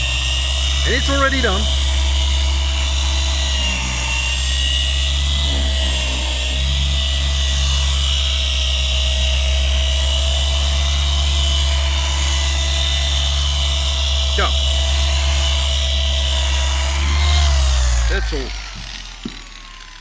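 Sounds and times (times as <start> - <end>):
electric polisher motor hum: 0.0 - 20.0.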